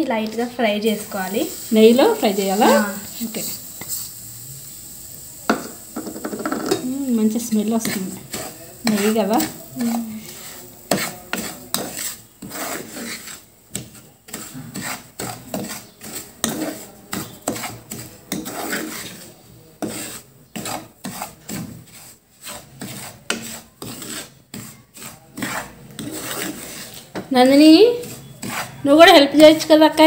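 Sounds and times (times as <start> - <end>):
wooden spatula scraping semolina in pan: 0.2 - 30.0.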